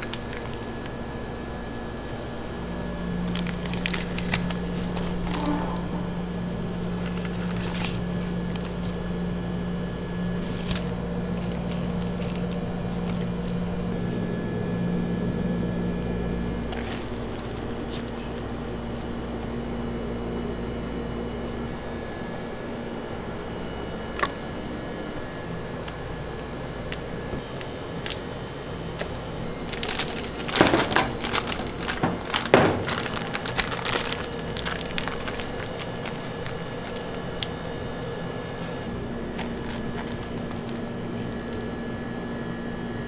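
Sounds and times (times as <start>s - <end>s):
steady equipment hum: 0.0s - 43.0s.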